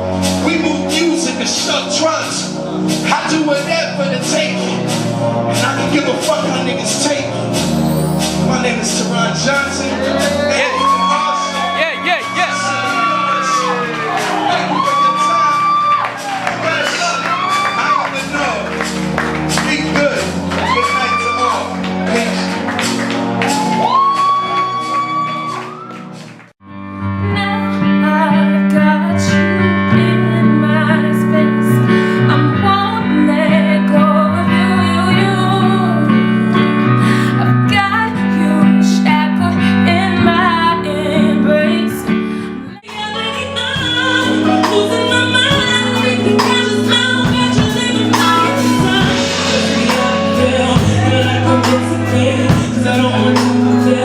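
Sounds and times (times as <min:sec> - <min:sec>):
music with singing: 0:00.0 - 0:54.0.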